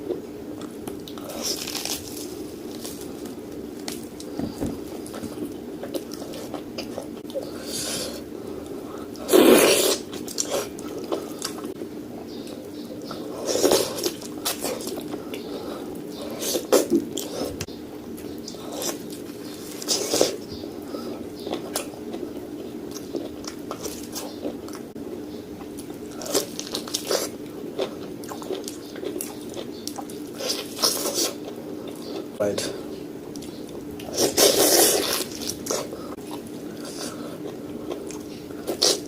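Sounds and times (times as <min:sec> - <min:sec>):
person chewing: 0:00.0 - 0:24.9, 0:25.6 - 0:32.3, 0:33.2 - 0:39.0
steady hum: 0:00.0 - 0:39.0.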